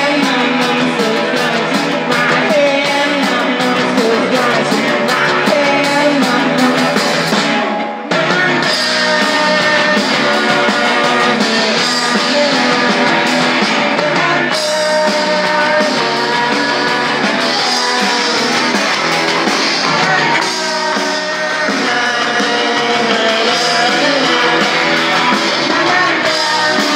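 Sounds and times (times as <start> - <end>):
drum kit: 0.0 - 26.9
electric bass: 0.0 - 26.9
electric guitar: 0.0 - 26.9.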